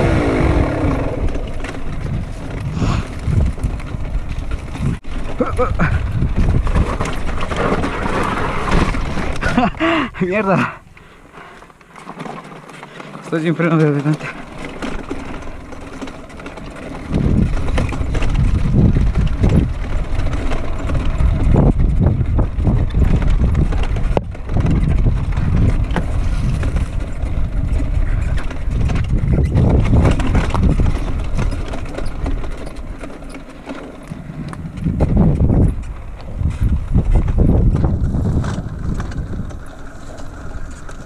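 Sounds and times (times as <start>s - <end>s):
wind buffeting microphone: 0.0s - 10.5s, 16.8s - 33.4s, 34.1s - 41.0s
dirt bike engine: 0.0s - 41.0s.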